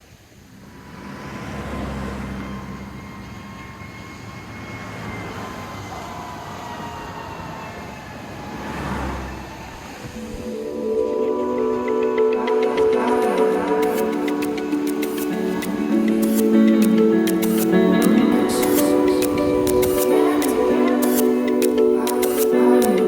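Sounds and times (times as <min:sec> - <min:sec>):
ocean surf washing in: 0:00.0 - 0:23.0.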